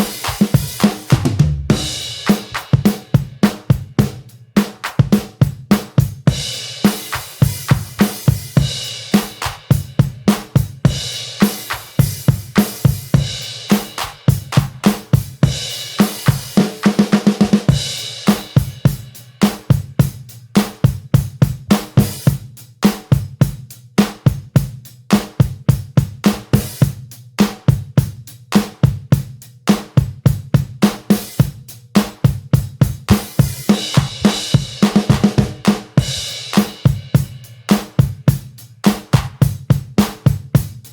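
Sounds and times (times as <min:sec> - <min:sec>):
drum kit music: 0:00.0 - 0:40.9.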